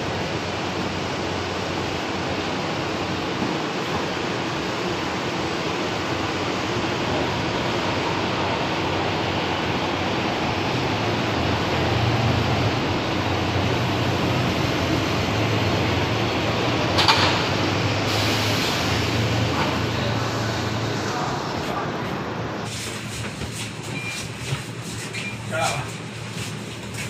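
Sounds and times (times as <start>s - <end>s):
bus engine hum: 0.0s - 27.0s
engine and ventilation noise: 0.0s - 27.0s.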